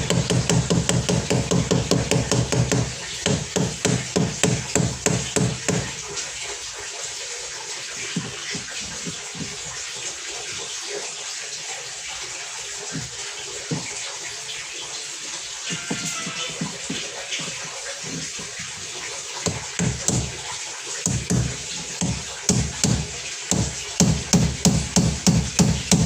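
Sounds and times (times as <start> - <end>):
water running and splashing: 0.0 - 26.0.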